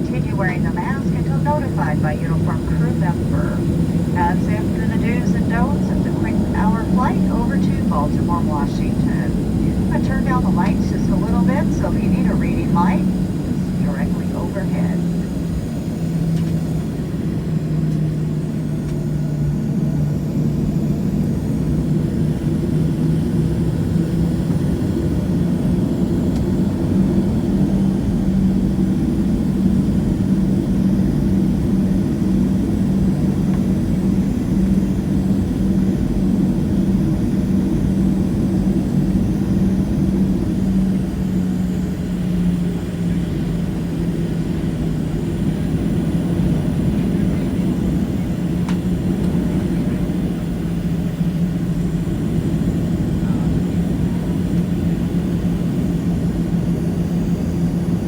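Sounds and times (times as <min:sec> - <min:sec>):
jet engines humming in cabin: 0:00.0 - 0:58.0.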